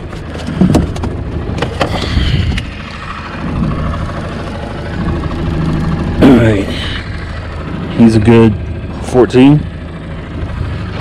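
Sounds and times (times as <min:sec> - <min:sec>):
boat motor idling: 0:00.0 - 0:11.0.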